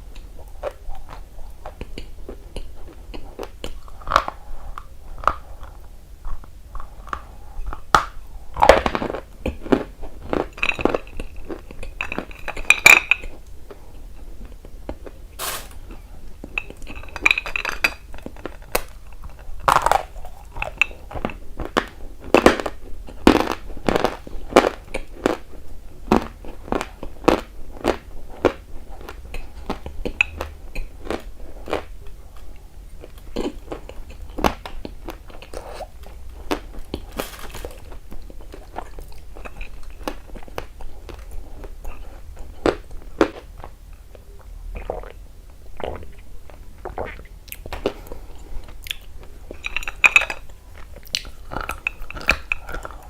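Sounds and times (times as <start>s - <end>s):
crunchy chewing: 0.1s - 43.7s, 45.8s - 53.0s.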